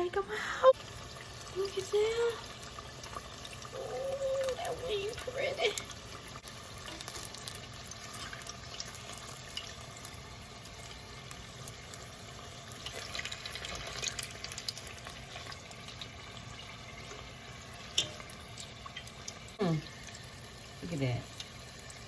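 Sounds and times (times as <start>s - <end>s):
deep-frying sizzle with crackles: 0.0s - 22.0s.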